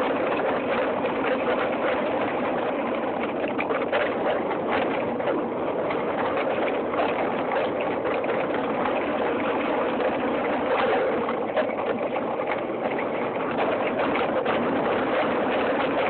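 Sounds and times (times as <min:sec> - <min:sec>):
wind and tyre noise: 0:00.0 - 0:16.0.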